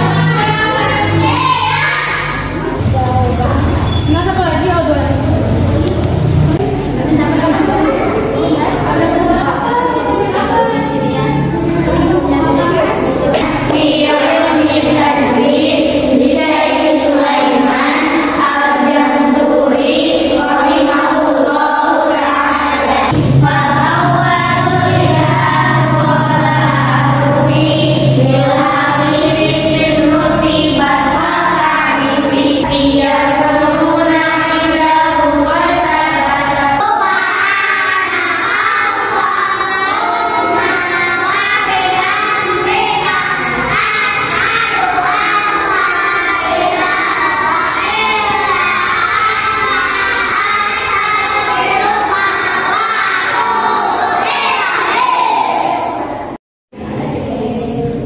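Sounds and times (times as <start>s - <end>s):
children singing in unison: 0.0s - 2.8s, 5.5s - 58.0s.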